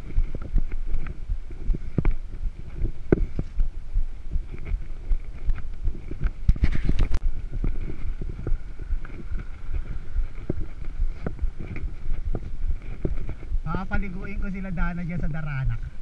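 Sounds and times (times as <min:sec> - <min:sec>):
bike rattling and knocking: 0:00.0 - 0:14.9
bike tyres rumbling on concrete: 0:00.0 - 0:15.2.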